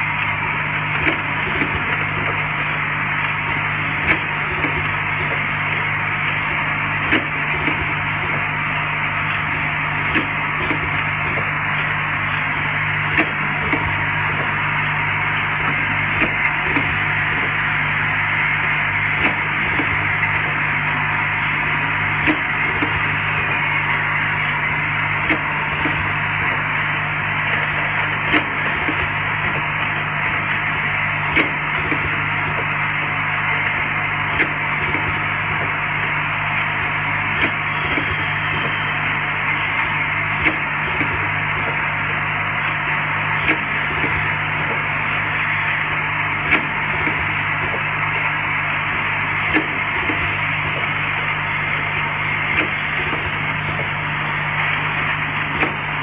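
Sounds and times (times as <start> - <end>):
machine clicks: 0.0 - 56.0
machine humming and buzzing: 0.0 - 56.0.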